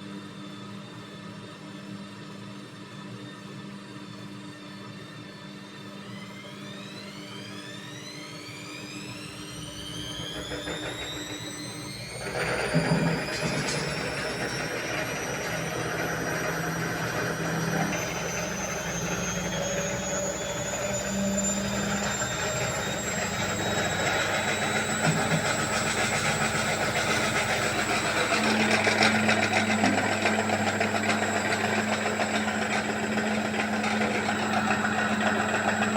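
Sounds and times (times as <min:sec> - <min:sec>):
washing machine spinning: 0:06.7 - 0:35.9.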